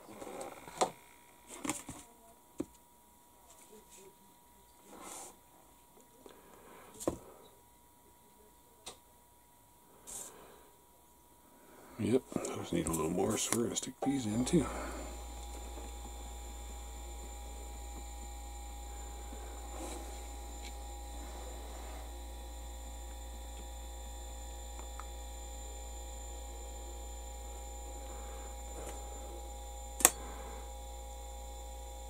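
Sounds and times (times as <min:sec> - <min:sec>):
electrical mains hum: 0:00.0 - 0:32.0
faint whining tones: 0:00.0 - 0:32.0.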